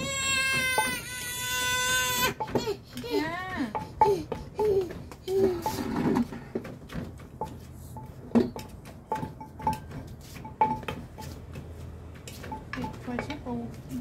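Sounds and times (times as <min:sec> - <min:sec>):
wooden pestle pounding in mortar: 0:00.1 - 0:14.0.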